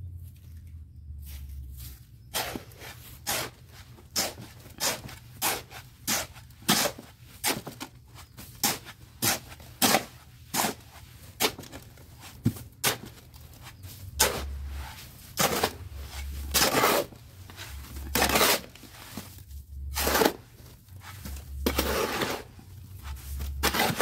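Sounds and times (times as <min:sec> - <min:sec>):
hoe scraping cement mix: 0:02.3 - 0:24.0.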